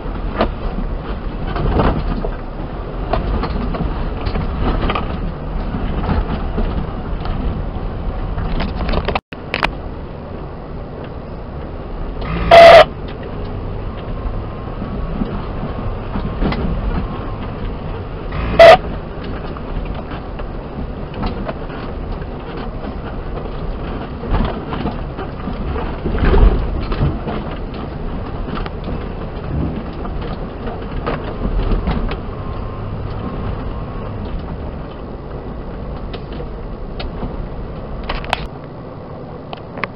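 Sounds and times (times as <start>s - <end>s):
engine and tyres rumbling on gravel: 0.0s - 39.9s.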